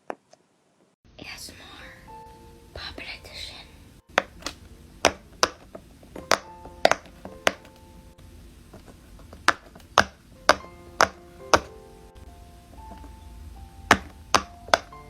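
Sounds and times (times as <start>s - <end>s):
faint music: 1.1s - 15.0s.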